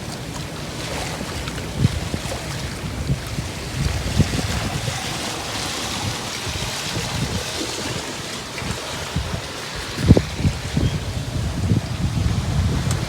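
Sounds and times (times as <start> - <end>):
sea water rushing around boat: 0.0 - 13.0
wind buffeting microphone: 0.0 - 13.0.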